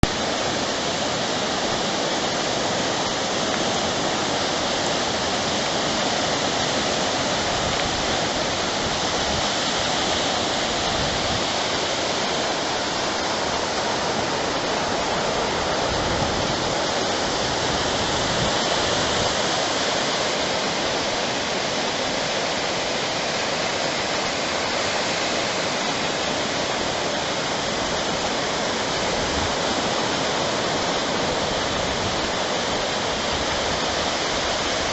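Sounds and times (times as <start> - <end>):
ocean surf rushing: 0.0 - 34.9.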